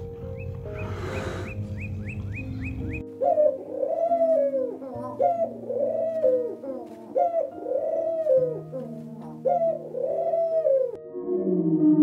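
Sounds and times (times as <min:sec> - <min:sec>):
pigeons cooing: 0:00.8 - 0:11.0.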